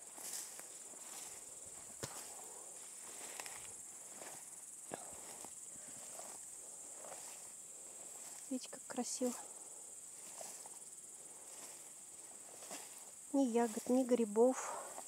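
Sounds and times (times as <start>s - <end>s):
footsteps swishing through grass: 0.0s - 8.6s, 10.1s - 15.0s
grasshoppers chirring: 0.0s - 15.0s.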